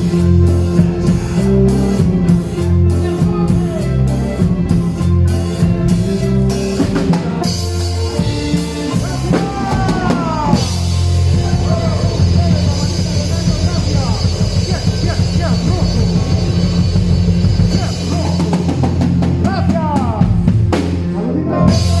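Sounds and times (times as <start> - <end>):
bass line: 0.0 - 22.0
drum kit: 0.0 - 22.0.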